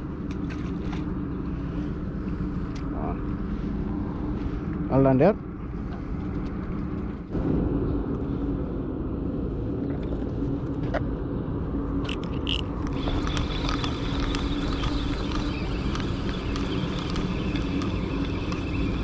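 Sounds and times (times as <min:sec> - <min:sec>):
low hum: 0:00.0 - 0:19.0
low outdoor rumble: 0:00.0 - 0:19.0.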